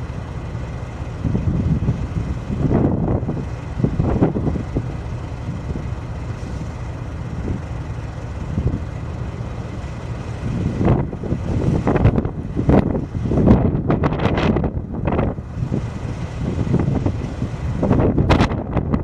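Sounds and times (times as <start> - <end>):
engine running at low speed: 0.0 - 19.0
wind gusts on microphone: 1.2 - 7.7, 10.3 - 19.0.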